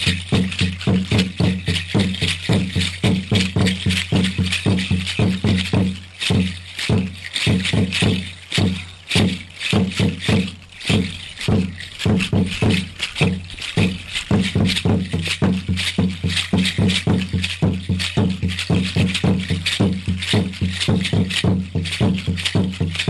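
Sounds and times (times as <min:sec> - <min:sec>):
rattles shaken: 0:00.0 - 0:23.0.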